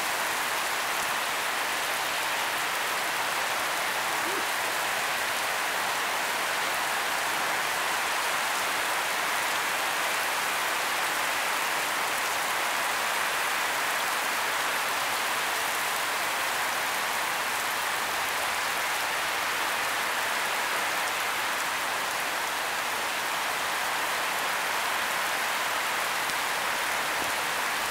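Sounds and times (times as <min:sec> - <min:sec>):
heavy rain on pavement: 0:00.0 - 0:27.9.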